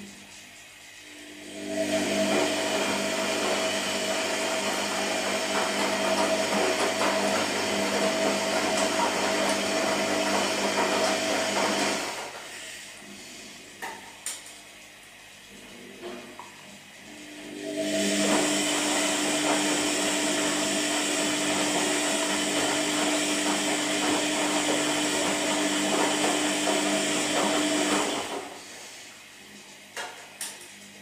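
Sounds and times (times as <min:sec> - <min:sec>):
washing machine drum churning: 0:01.2 - 0:28.7.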